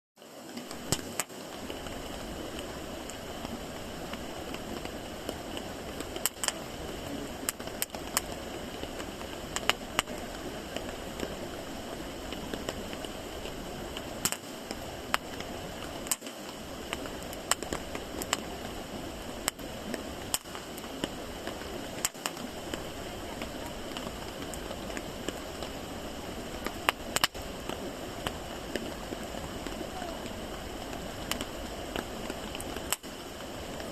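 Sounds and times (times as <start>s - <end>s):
campfire flames rushing: 0.3s - 33.9s
wood crackling and popping: 0.4s - 33.9s.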